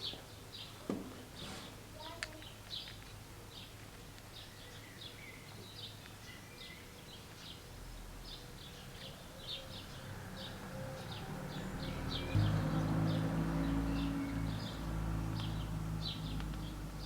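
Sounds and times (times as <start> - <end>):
small birds chirping: 2.0 - 17.0.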